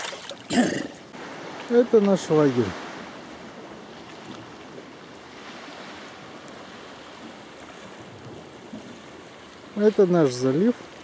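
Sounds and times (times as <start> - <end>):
sea: 0.0 - 11.0
wind: 0.0 - 11.0.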